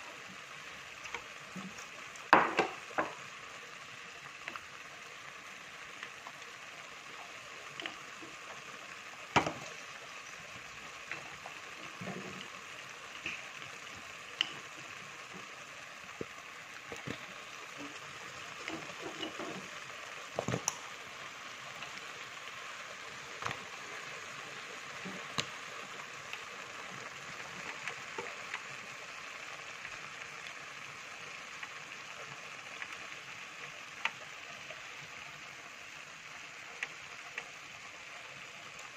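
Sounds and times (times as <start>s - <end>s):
stew bubbling with pops: 0.1s - 38.9s.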